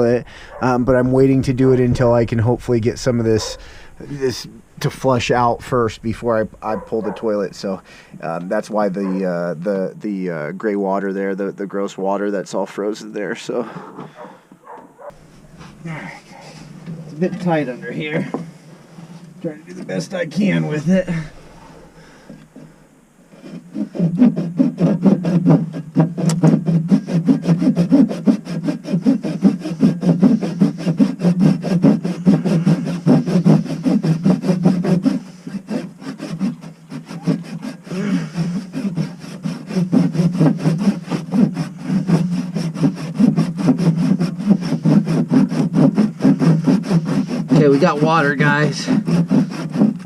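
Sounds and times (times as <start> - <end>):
saw cutting plastic pipe: 0.0 - 9.3, 16.8 - 50.0.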